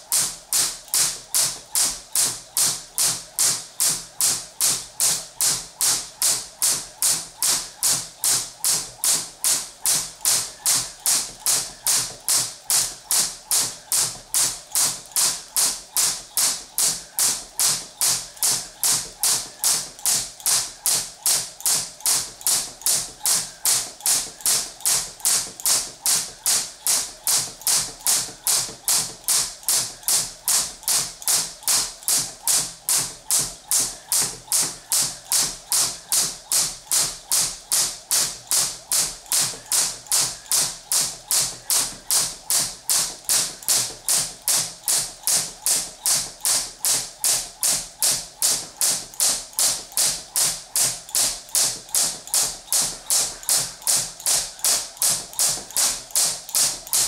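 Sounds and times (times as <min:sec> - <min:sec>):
jump rope striking floor: 0:00.0 - 0:57.0.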